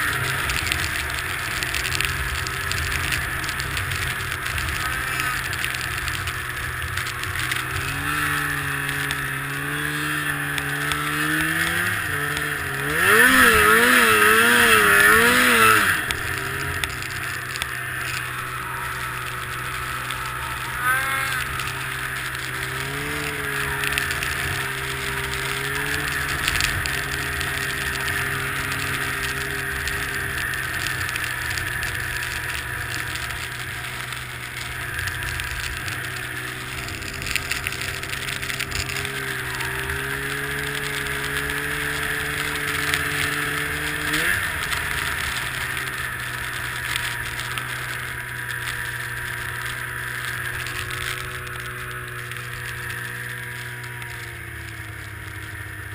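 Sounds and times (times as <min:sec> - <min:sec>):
constant rushing noise: 0:00.0 - 0:55.9
snowmobile engine running: 0:00.0 - 0:55.9.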